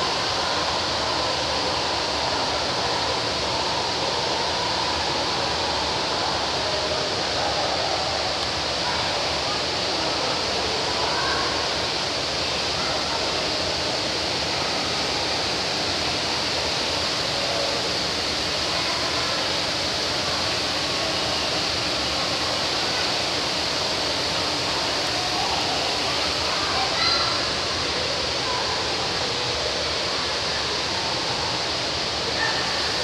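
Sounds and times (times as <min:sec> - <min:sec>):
indoor waterfall rushing: 0:00.0 - 0:33.0.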